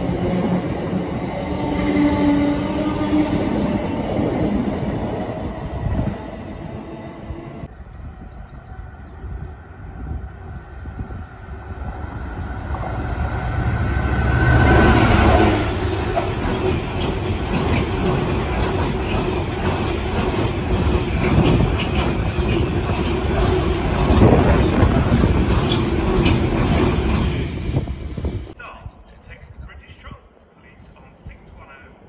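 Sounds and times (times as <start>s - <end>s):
freight train passing: 0.0s - 28.6s.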